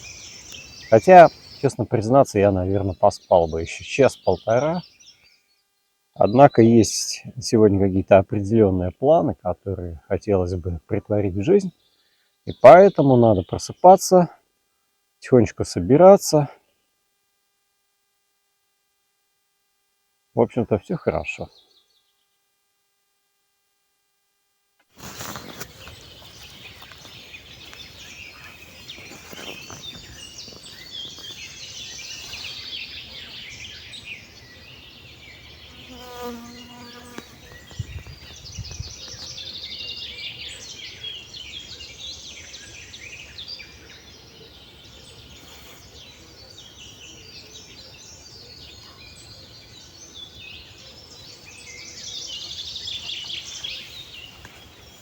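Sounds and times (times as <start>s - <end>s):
small birds singing and chirping: 0.0s - 14.3s, 20.4s - 22.4s, 25.2s - 55.0s.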